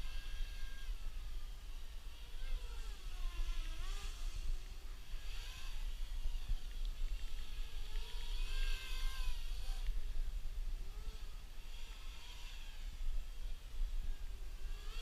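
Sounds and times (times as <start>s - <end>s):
quadcopter motors whining: 0.0s - 15.0s
steady low rumble: 0.0s - 15.0s.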